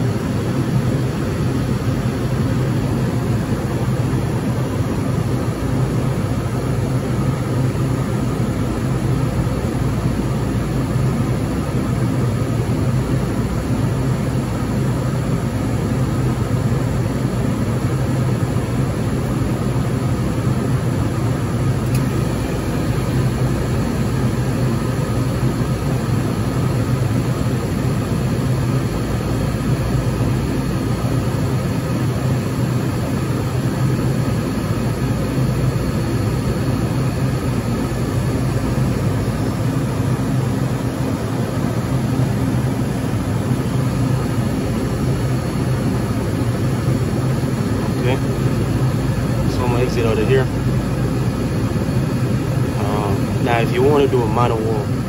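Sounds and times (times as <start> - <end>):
refrigeration unit humming: 0.0 - 55.0.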